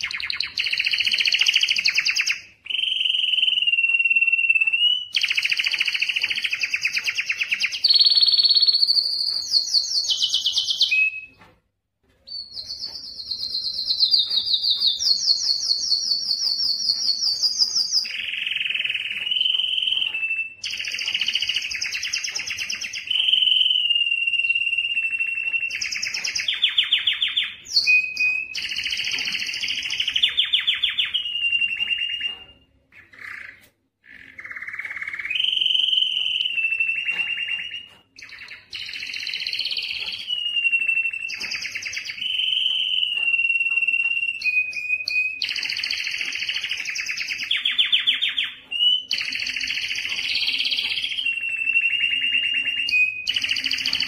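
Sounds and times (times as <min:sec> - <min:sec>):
canary singing trills: 0:00.0 - 0:11.6, 0:12.2 - 0:54.0.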